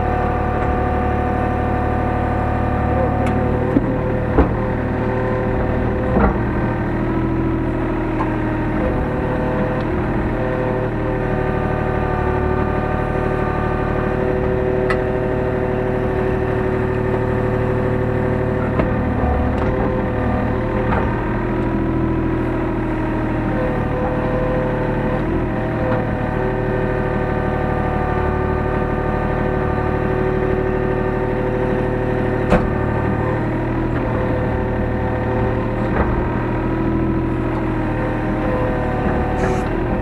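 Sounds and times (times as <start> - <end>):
excavator diesel engine and hydraulics: 0.0 - 40.0.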